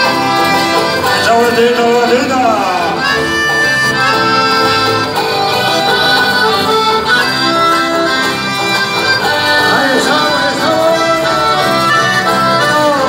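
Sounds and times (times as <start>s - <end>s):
accordion melody: 0.0s - 13.0s
bass guitar: 0.0s - 13.0s
strummed guitar: 0.0s - 13.0s.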